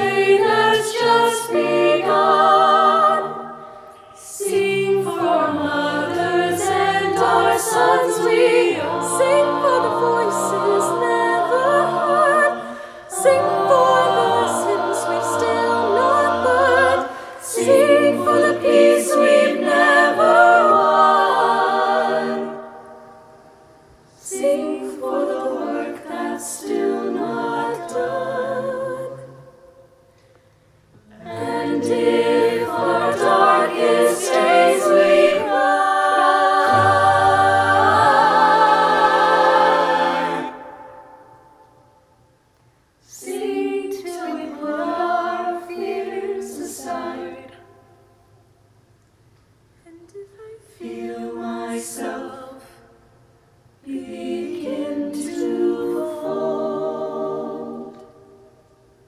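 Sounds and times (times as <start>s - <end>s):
choir singing a cappella: 0.0s - 42.4s, 43.0s - 48.7s, 49.8s - 59.0s.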